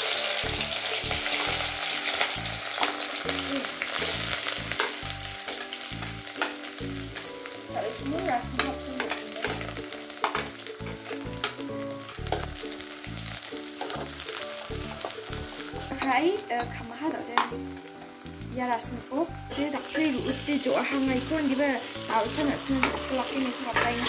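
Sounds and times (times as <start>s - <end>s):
background music: 0.0s - 24.0s
onions sizzling in hot oil: 0.0s - 24.0s.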